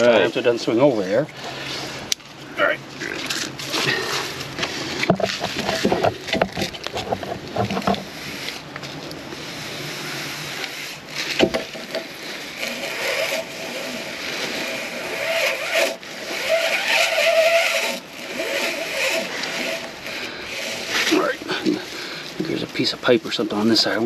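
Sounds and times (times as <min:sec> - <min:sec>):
rope scraping over rim: 0:02.9 - 0:24.0.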